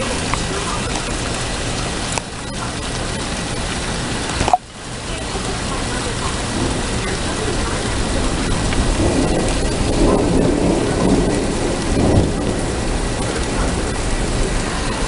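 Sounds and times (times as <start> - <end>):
rain falling: 0.0 - 15.0
thunder rumble: 0.0 - 15.0.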